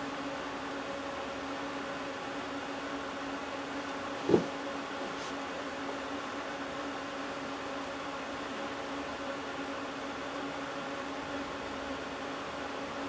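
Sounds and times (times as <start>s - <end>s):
workshop room hum: 0.0s - 13.0s.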